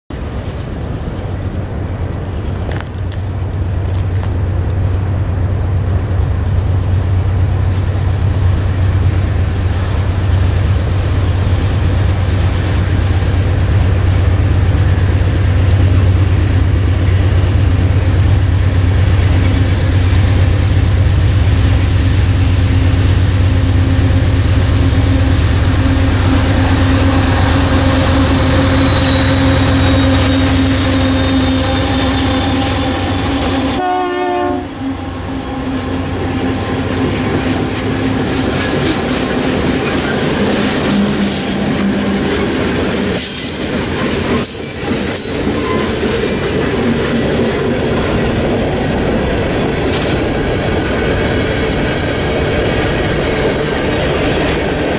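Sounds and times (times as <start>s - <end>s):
diesel locomotive engine rumble: 0.1s - 54.9s.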